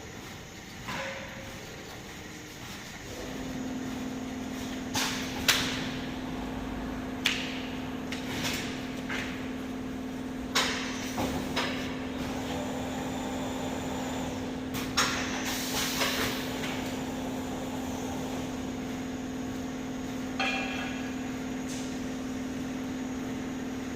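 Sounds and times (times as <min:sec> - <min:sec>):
printing machine humming: 0:00.0 - 0:20.4.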